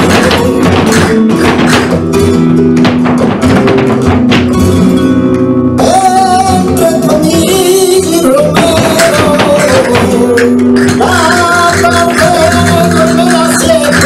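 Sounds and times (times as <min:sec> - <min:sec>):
flamenco singing: 0:00.0 - 0:14.0.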